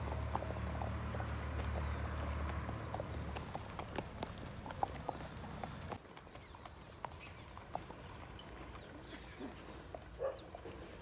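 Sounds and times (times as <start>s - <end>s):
hooves thudding on dirt: 0.0s - 11.0s.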